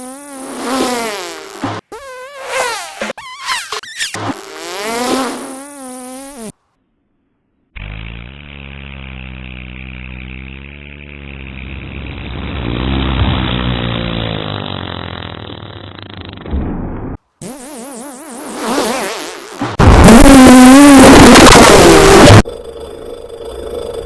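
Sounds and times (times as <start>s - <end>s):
fart sound effects: 0.0s - 6.6s, 7.8s - 22.5s.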